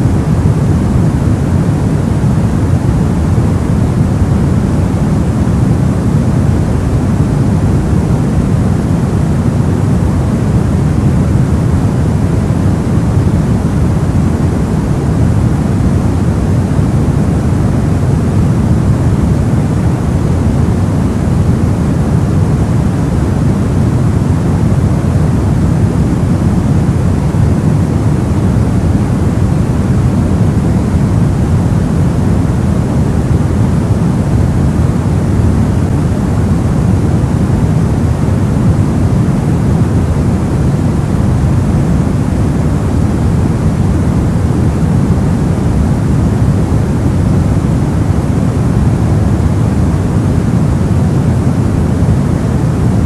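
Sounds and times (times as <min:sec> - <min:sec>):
soft white noise: 0:00.0 - 0:53.0.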